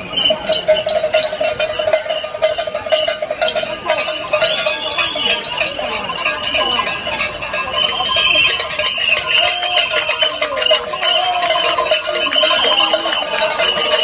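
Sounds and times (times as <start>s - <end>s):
whistles blowing: 0.0s - 3.4s, 4.2s - 5.6s, 7.3s - 14.0s
cowbells clattering: 0.0s - 14.0s
horns blowing: 0.0s - 14.0s.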